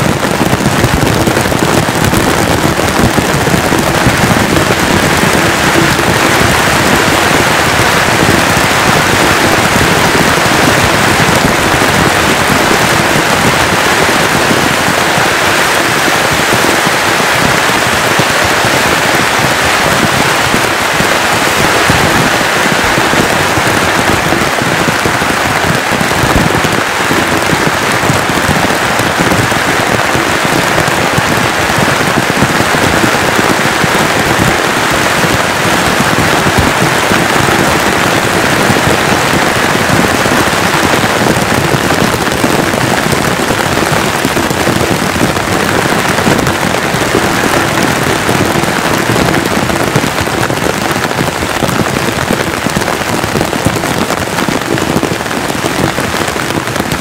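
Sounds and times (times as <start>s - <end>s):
heavy rain on nylon tarp: 0.0s - 57.0s.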